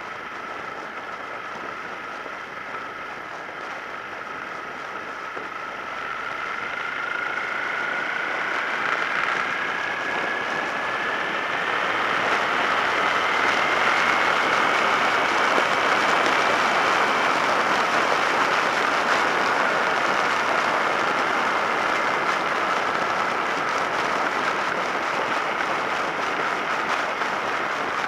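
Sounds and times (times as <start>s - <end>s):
motorcycle engine accelerating: 0.0s - 28.0s
road and wind noise: 0.0s - 28.0s.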